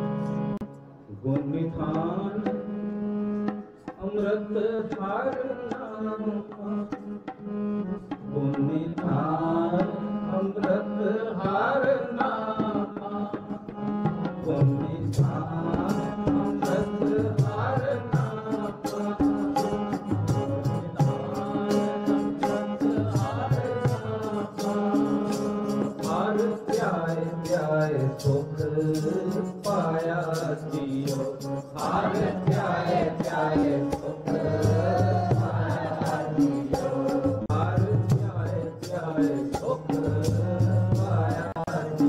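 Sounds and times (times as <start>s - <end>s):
harmonium chords: 0.0s - 42.0s
man singing: 1.1s - 2.7s, 3.9s - 7.3s, 8.0s - 42.0s.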